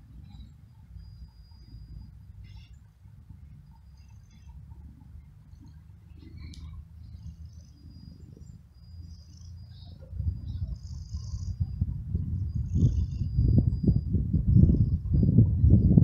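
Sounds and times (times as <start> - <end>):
low steady rumble: 0.0 - 16.0
small birds chirping: 0.1 - 15.9.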